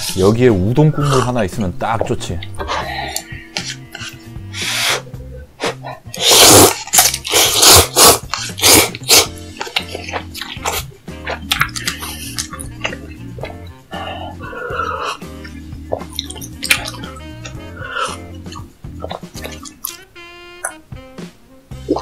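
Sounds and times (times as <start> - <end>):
close-miked eating sounds: 0.0 - 20.8
background music with steady beat: 0.0 - 22.0.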